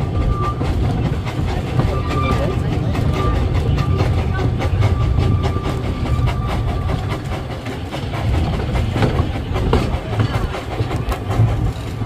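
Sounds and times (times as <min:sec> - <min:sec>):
steam train rumbling: 0:00.0 - 0:12.0
wheels clicking over rail joints: 0:00.0 - 0:12.0.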